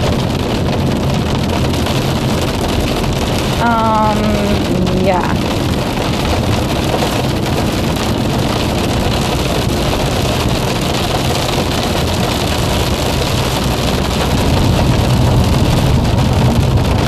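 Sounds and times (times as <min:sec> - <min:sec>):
hail and rain pattering on car: 0:00.0 - 0:17.0
road and engine rumble: 0:00.0 - 0:17.0.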